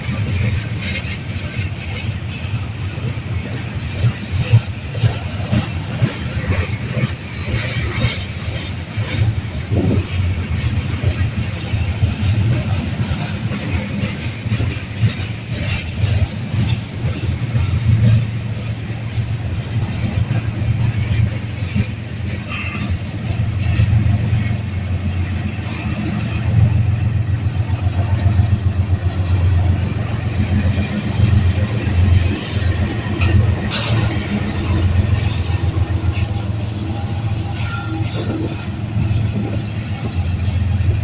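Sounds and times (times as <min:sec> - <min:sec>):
freight train wheels rumbling on rail: 0:00.0 - 0:41.0.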